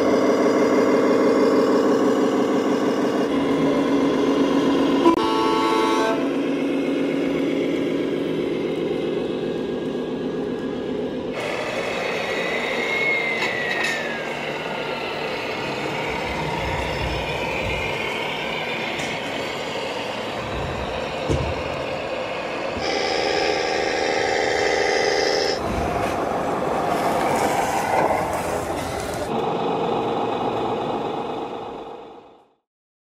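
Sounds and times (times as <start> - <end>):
model trucks running: 0.0 - 32.6.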